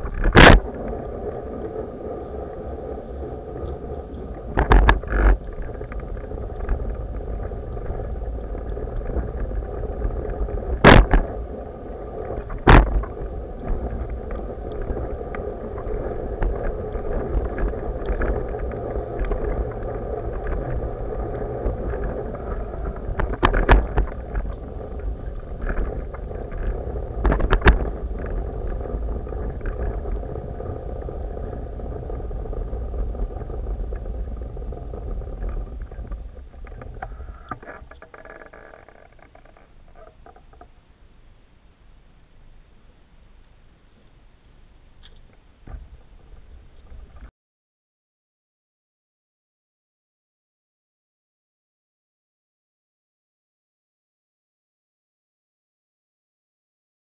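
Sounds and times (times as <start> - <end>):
hoverboard wheels rolling rumble: 0.0 - 47.3.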